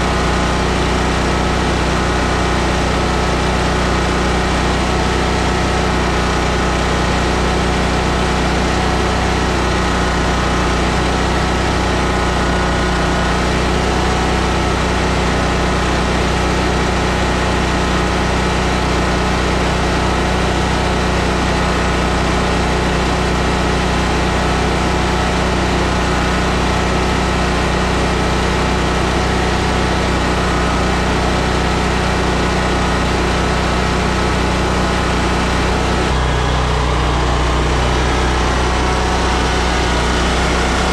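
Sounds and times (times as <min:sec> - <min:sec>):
mower engine running: 0:00.0 - 0:40.9.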